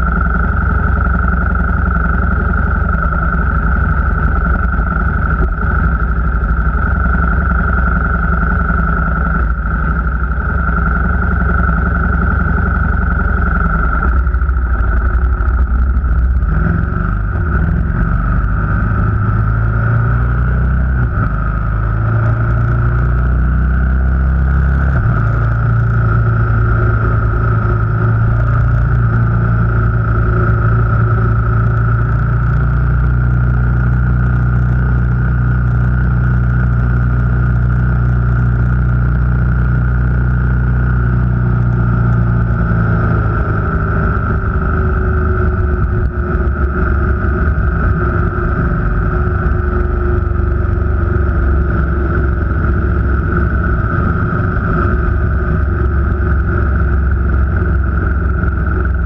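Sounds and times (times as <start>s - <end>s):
car engine: 0.0s - 59.0s
road noise: 0.0s - 59.0s
steady high whine: 0.0s - 59.0s.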